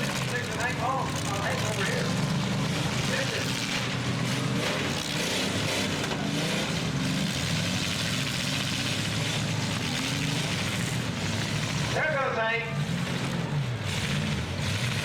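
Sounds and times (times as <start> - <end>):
truck engines running: 0.0 - 15.0.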